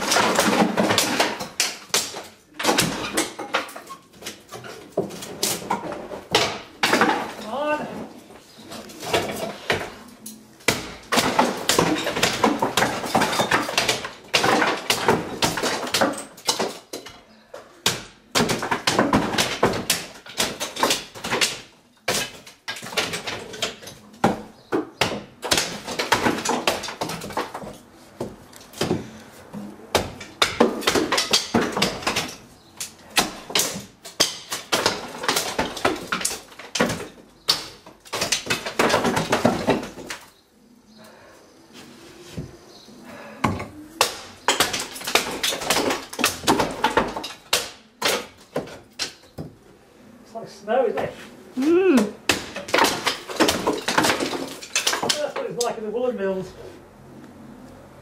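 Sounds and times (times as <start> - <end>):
falling debris: 0.0 - 8.2, 10.6 - 17.1, 17.8 - 29.1, 29.9 - 40.4, 43.4 - 49.2, 51.6 - 55.8
wood cracking and splintering: 0.0 - 9.9, 10.6 - 29.2, 29.9 - 40.4, 44.0 - 49.5, 51.6 - 56.1.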